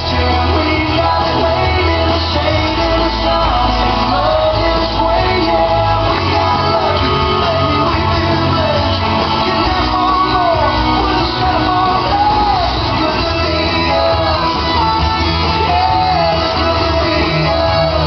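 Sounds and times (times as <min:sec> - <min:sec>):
song with band over loudspeakers: 0:00.0 - 0:18.0.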